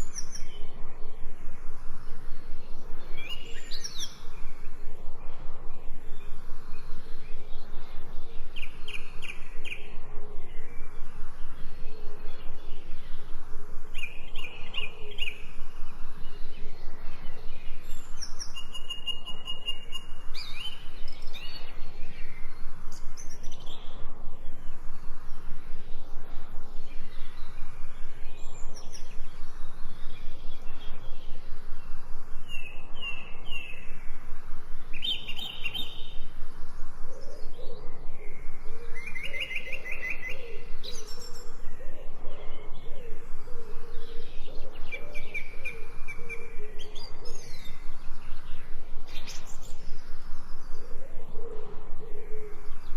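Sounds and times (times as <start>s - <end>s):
birds chirping: 0.0s - 52.9s
pulsing natural ambience: 0.0s - 52.9s.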